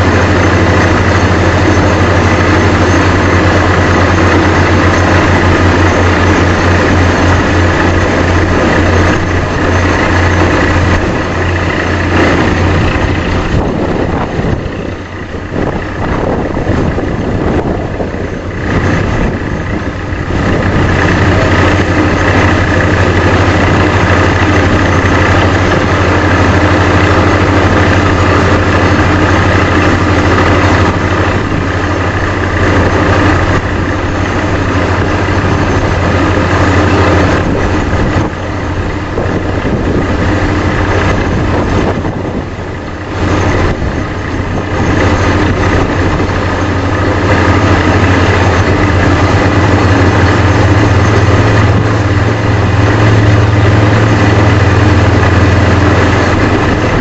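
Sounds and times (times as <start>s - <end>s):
deep compressor hum: 0.0s - 57.0s
drilling rig running: 0.0s - 57.0s.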